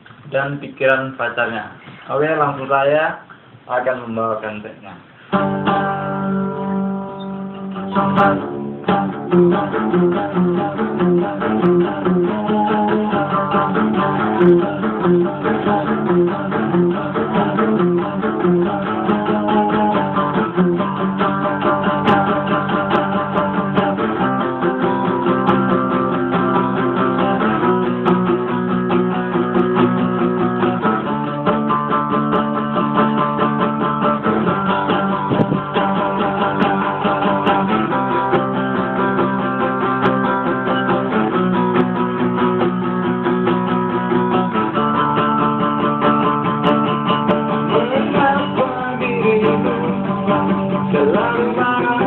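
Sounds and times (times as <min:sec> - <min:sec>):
acoustic guitar strumming: 0:05.0 - 0:52.0
electric guitar playing: 0:05.1 - 0:52.0.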